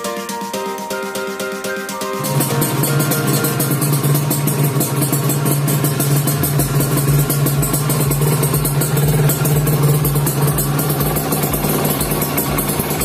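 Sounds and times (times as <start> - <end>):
background music with low beat: 0.0 - 13.0
two-stroke engine running: 2.0 - 13.0.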